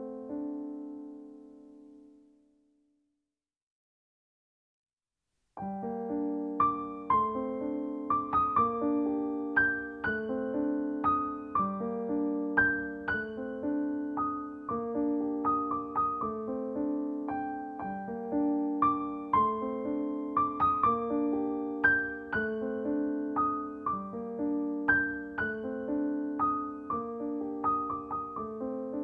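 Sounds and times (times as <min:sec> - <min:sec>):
piano keyboard music: 0:00.0 - 0:02.2, 0:05.6 - 0:29.0.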